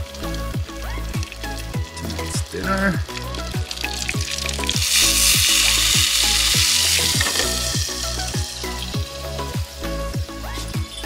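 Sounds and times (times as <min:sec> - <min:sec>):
background music with steady beat: 0:00.0 - 0:11.0
food sizzling in a frying pan: 0:00.1 - 0:11.0.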